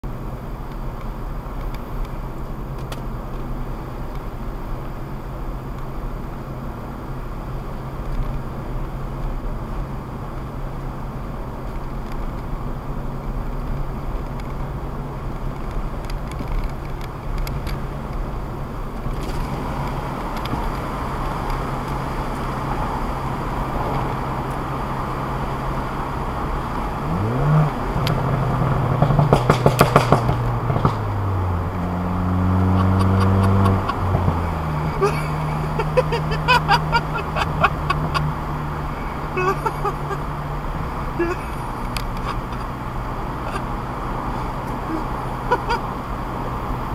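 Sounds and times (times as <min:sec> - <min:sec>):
exhaust crackles and pops: 0:00.0 - 0:46.9
car engine revving: 0:01.2 - 0:46.9.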